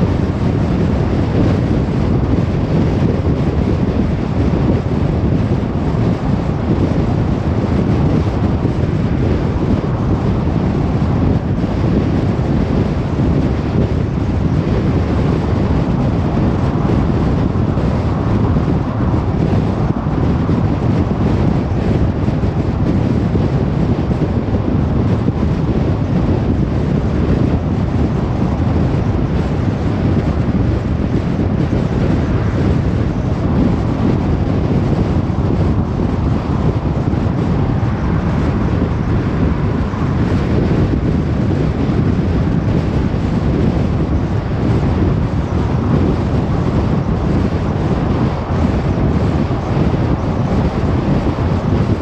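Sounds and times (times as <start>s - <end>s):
car tyre and wind rumble: 0.0s - 52.0s.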